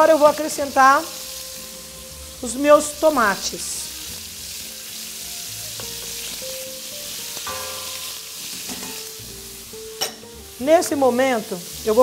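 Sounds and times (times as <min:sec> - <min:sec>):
tomatoes sizzling in hot oil: 0:00.0 - 0:12.0.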